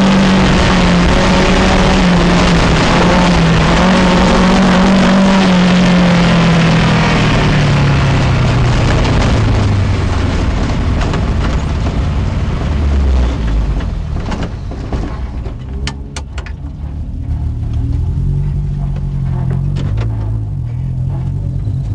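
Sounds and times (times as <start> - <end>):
car engine revs falling: 0.0 - 21.9.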